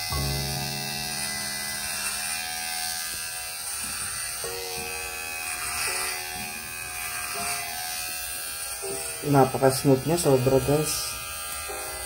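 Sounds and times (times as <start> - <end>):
hair clipper buzzing: 0.0 - 12.0.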